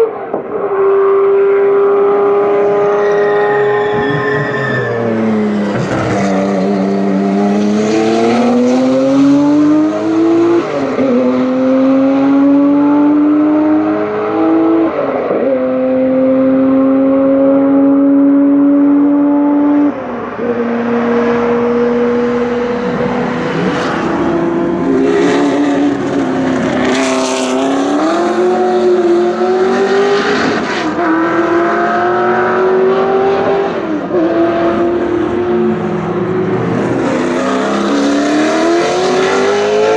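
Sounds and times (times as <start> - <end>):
race car engine accelerating: 5.0 - 39.9.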